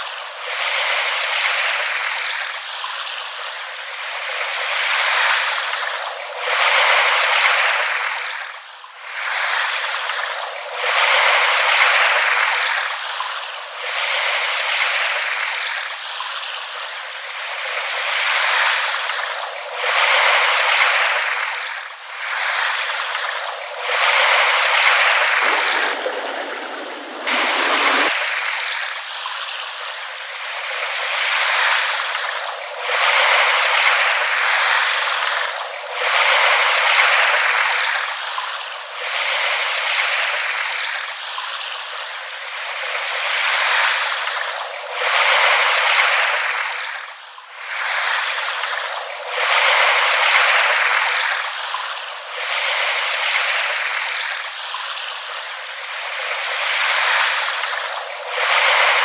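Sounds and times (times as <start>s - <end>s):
small waves lapping at shore: 0.0s - 59.0s.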